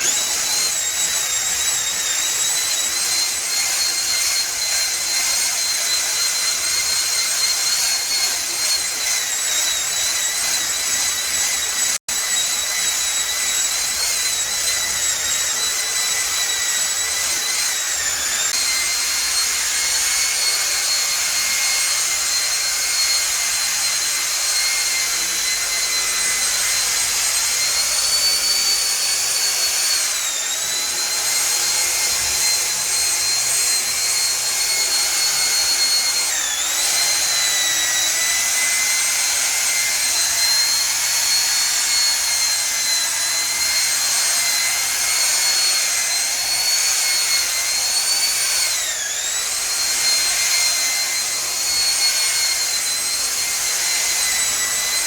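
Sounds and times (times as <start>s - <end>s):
electric polisher whining: 0.0s - 55.0s.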